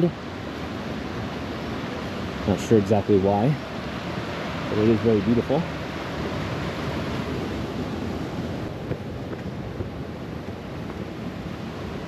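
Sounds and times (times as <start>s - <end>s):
river flowing over rocks: 0.0s - 12.0s.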